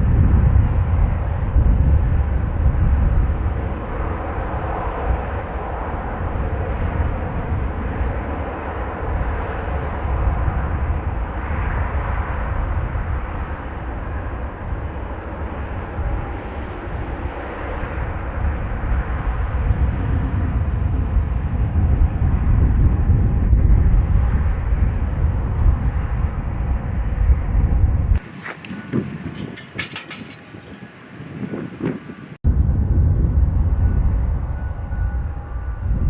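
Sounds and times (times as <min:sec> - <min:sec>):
distant jet engines rumbling: 0:00.0 - 0:36.0
wind buffeting microphone: 0:00.0 - 0:36.0.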